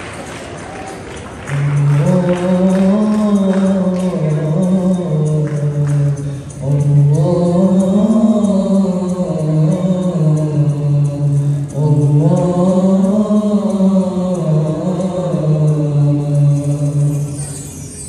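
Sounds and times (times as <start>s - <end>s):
man singing: 1.5s - 18.0s.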